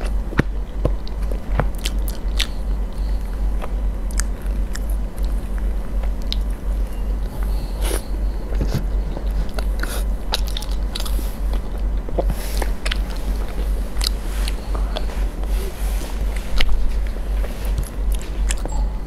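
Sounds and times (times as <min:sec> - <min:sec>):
close-miked chewing and mouth smacks: 0:00.0 - 0:15.2, 0:16.3 - 0:18.8
steady low hum: 0:00.0 - 0:19.0.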